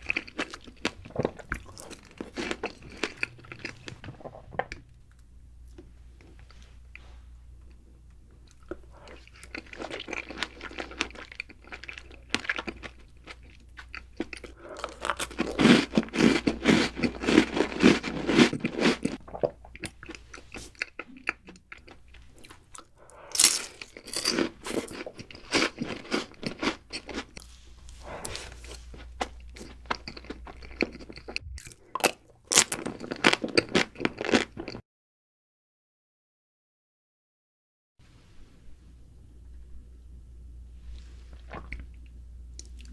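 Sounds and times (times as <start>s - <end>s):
crunching and chewing sweets: 0.0s - 34.8s.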